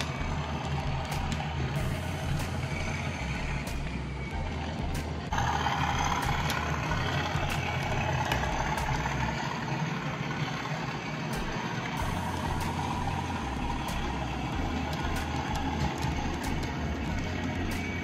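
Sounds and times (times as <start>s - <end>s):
model train rumbling: 0.0s - 18.0s
wheels clicking over rail joints: 0.0s - 18.0s.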